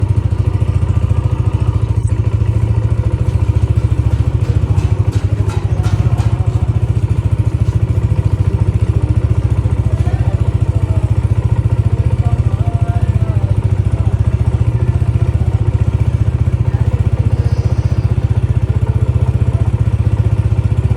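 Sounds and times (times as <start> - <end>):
motorcycle engine idling: 0.0 - 20.9.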